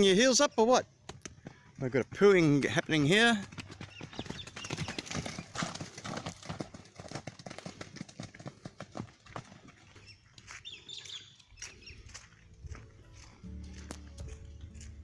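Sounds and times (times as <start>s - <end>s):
hoofbeats on wet ground: 1.1s - 15.0s.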